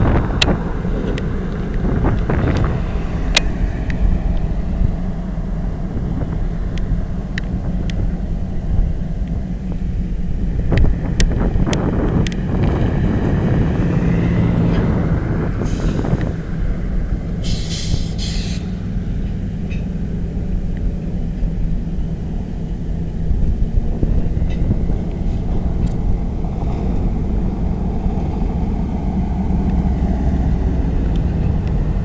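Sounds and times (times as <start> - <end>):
diesel locomotives idling: 0.0 - 32.0
wind buffeting microphone: 0.0 - 32.0.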